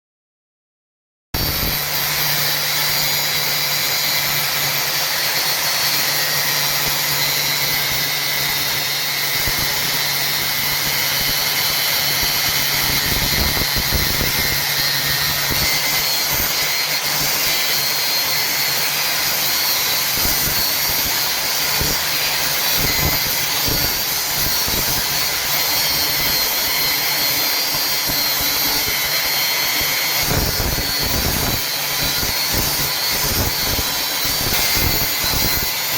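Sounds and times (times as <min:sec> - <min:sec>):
machine grinding through metal: 0:01.4 - 0:35.9.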